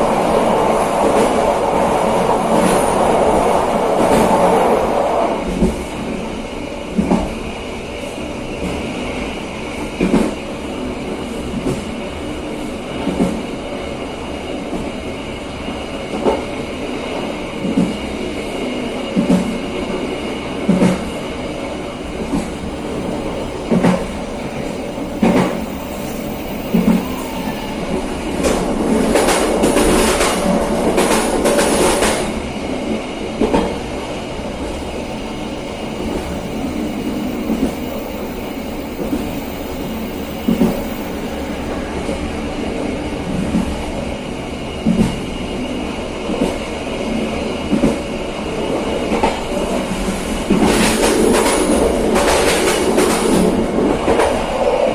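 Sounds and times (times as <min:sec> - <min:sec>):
train rumbling on track: 0:00.0 - 0:54.9.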